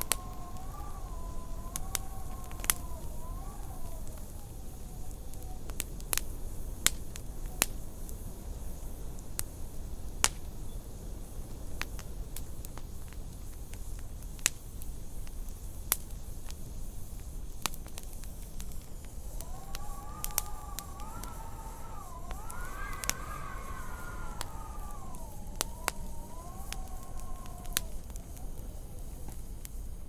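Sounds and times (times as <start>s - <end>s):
wood fire crackling: 0.0s - 8.6s, 13.8s - 30.0s
low rumble of fire and wind: 0.0s - 30.0s
whistling howl of wind: 0.0s - 30.0s.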